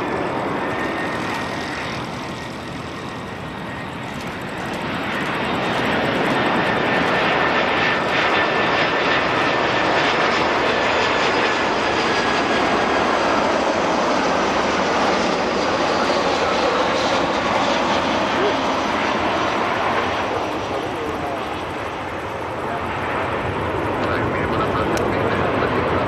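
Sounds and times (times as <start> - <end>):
jet airliner passing low: 0.0 - 26.0.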